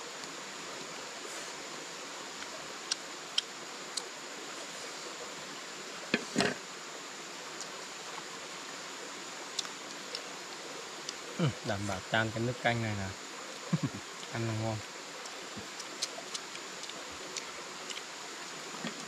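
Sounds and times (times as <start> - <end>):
even forest hiss: 0.0 - 19.0.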